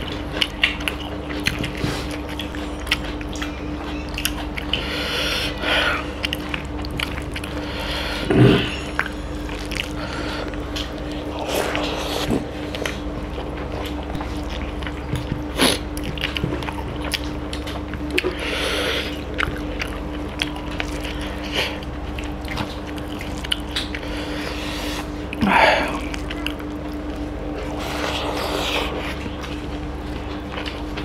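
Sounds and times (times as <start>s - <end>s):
chewing and lip smacks: 0.0s - 7.8s, 8.9s - 18.4s, 19.0s - 31.0s.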